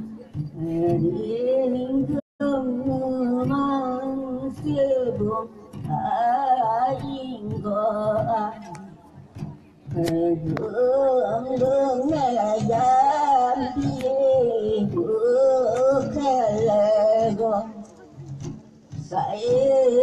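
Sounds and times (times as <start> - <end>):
person singing into microphone: 0.0 - 20.0
barrel drum beats: 0.1 - 20.0.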